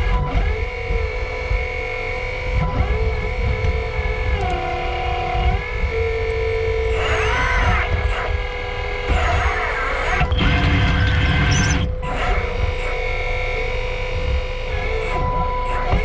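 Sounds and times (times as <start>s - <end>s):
hydraulic pump whining: 0.0s - 16.0s.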